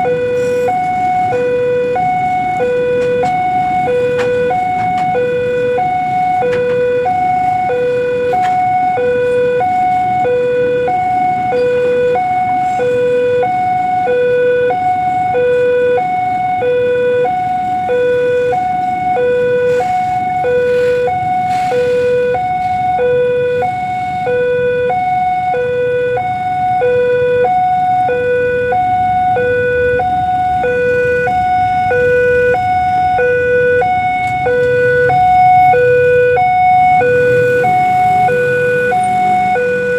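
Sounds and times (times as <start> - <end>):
level-crossing two-tone alarm: 0.0 - 39.9.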